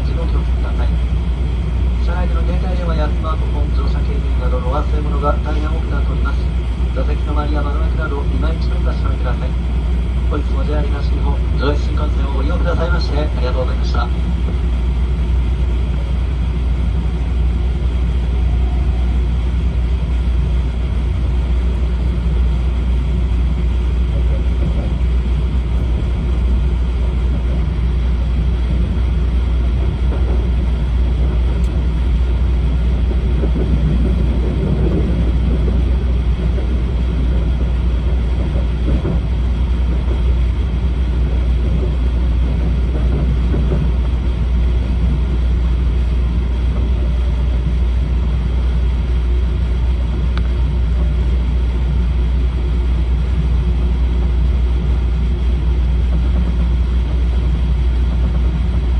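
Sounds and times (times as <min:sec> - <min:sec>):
train running rumble: 0:00.0 - 0:58.9.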